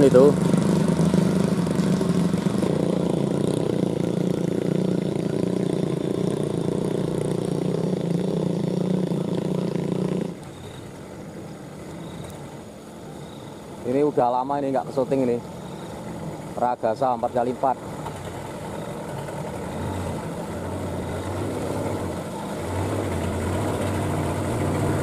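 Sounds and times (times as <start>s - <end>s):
quiet engine hum: 0.0s - 25.0s
vehicle engine running: 0.0s - 25.0s.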